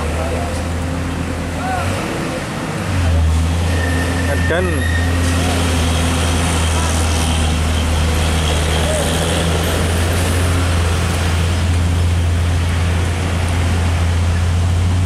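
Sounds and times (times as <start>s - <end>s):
diesel truck engine labouring: 0.0s - 15.0s
passing road traffic: 0.0s - 15.0s.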